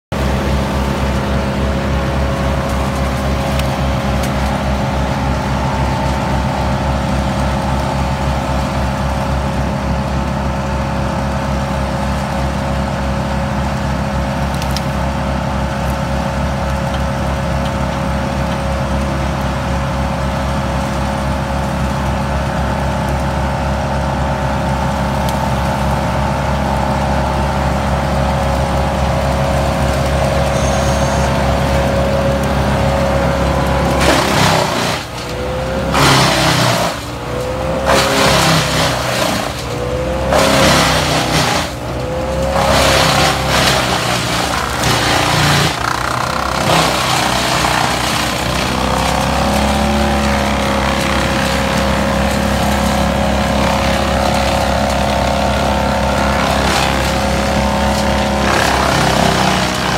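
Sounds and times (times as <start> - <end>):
machinery engines droning: 0.0 - 59.9.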